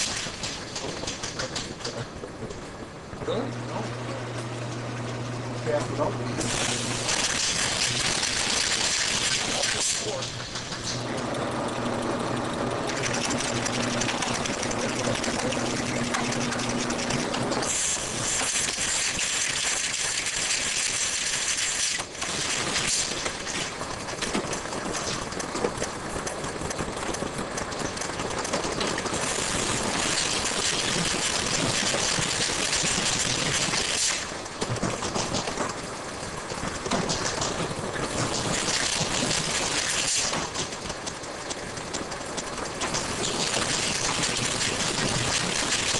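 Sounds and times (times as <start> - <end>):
motor hum: 2.2 - 35.5, 36.1 - 45.9.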